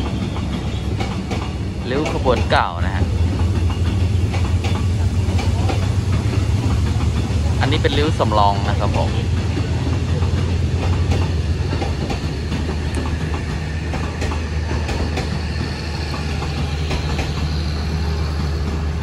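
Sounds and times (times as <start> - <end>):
low train rumble: 0.0 - 19.0
wheels clacking over rail joints: 0.0 - 19.0.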